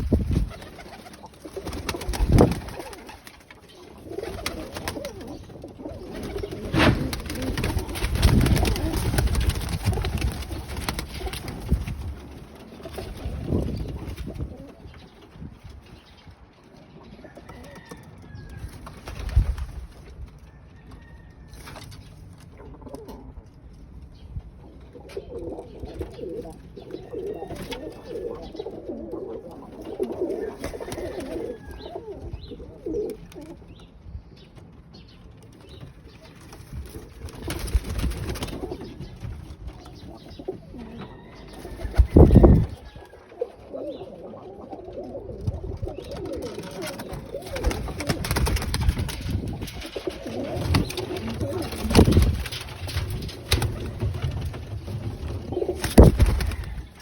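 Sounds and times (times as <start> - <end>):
birds cooing: 0.0 - 18.6, 24.7 - 34.0, 35.0 - 57.0.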